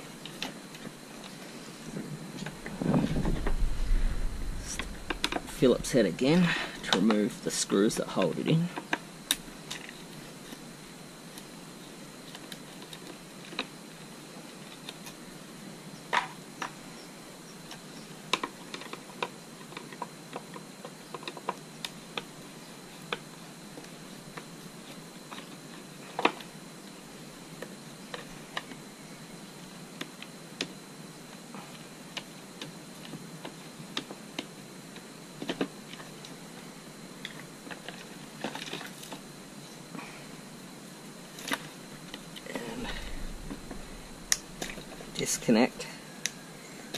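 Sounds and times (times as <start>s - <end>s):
faint steady hiss: 0.0s - 46.9s.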